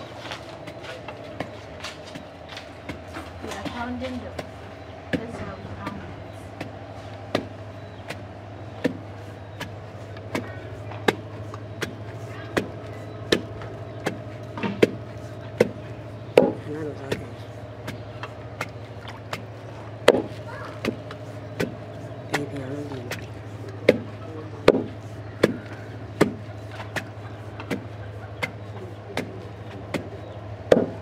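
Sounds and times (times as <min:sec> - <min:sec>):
pestle pounding in wooden mortar: 0:00.0 - 0:31.0.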